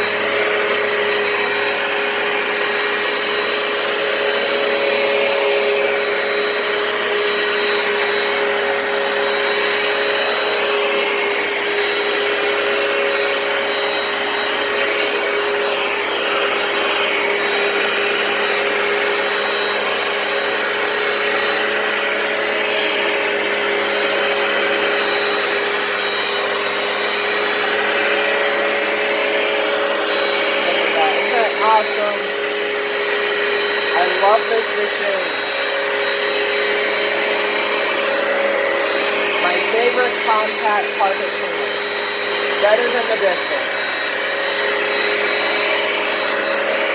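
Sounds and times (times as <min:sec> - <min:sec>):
carpet cleaner motor whine: 0:00.0 - 0:46.9.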